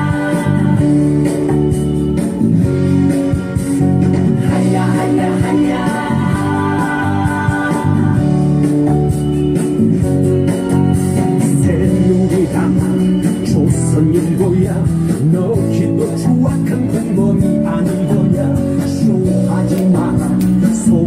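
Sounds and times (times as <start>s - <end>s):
protest song with guitar: 0.0s - 21.0s.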